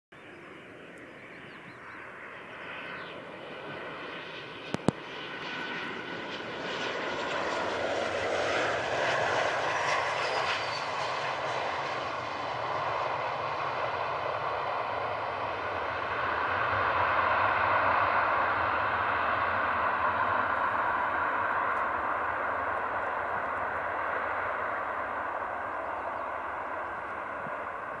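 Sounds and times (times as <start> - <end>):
jet engines roaring: 0.2 - 28.0.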